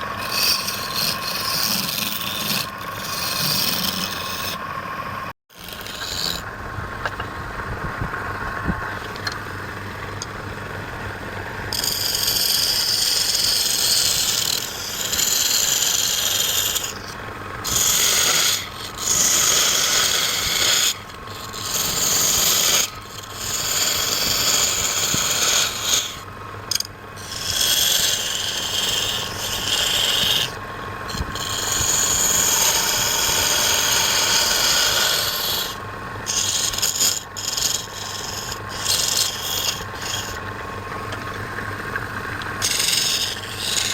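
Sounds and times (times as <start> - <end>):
lathe tool scraping wood: 0.0 - 4.8, 5.5 - 7.2, 11.5 - 43.9.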